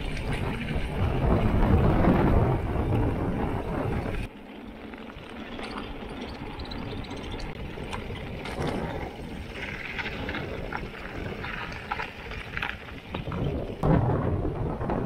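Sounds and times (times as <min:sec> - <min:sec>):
bike tyres on gravel: 0:00.0 - 0:15.0
wind buffeting microphone: 0:00.0 - 0:15.0.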